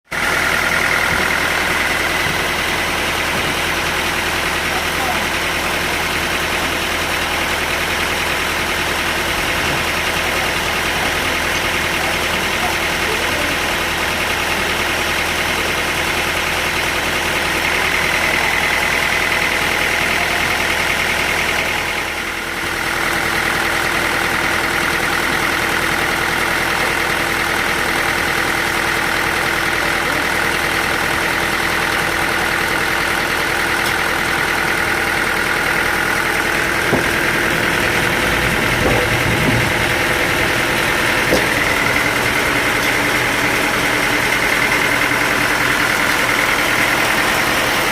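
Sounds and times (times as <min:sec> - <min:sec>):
sawmill machinery whining: 0:00.1 - 0:47.9.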